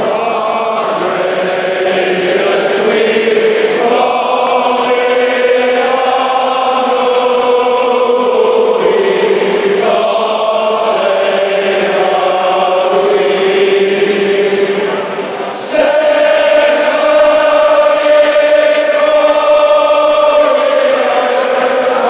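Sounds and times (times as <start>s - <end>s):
stadium crowd singing: 0.0s - 22.0s.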